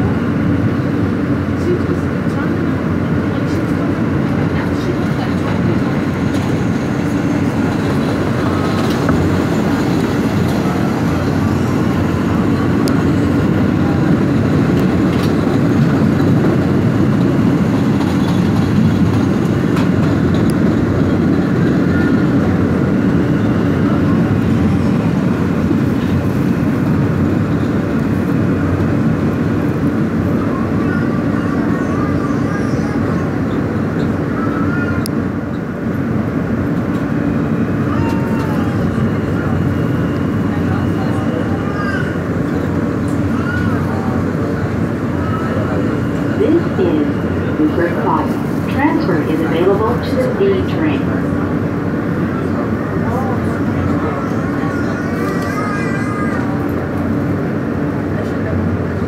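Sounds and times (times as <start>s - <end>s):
passing subway train alongside: 0.0s - 59.0s
subway wheels rumbling on rail: 0.0s - 59.0s.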